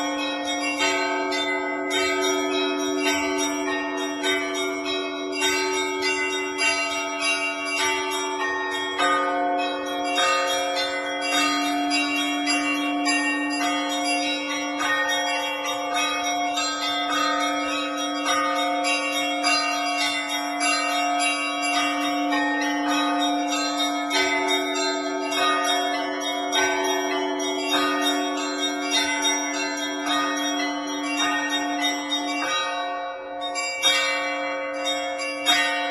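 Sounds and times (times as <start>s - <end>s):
large deep bell ringing: 0.0s - 35.9s
small high bells struck rapidly: 0.0s - 35.9s.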